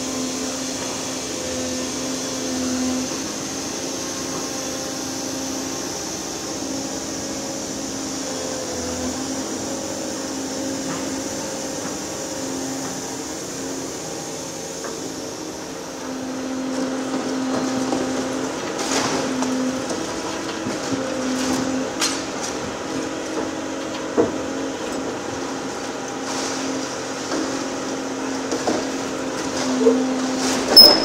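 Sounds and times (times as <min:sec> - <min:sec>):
excavator engine and hydraulics hum: 0:00.0 - 0:31.0.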